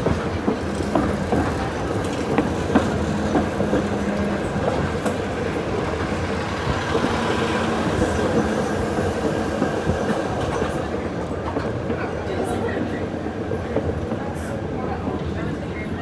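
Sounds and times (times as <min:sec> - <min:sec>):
streetcar wheels rumbling on rails: 0:00.0 - 0:16.0.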